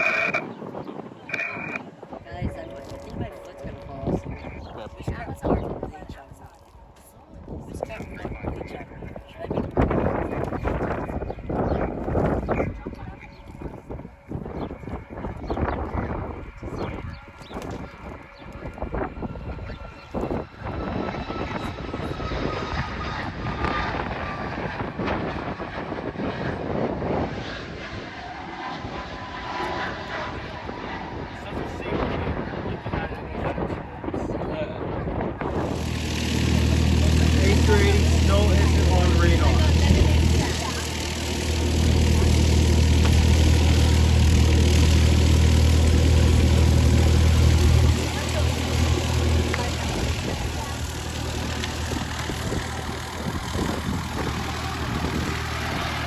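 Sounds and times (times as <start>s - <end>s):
jet engines rushing: 0.0s - 33.3s, 35.3s - 56.0s.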